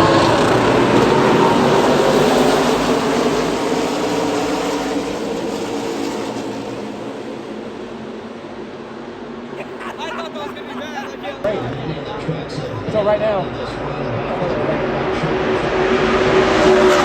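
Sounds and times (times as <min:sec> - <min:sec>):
race car engines droning past: 0:00.0 - 0:09.6, 0:11.2 - 0:17.0.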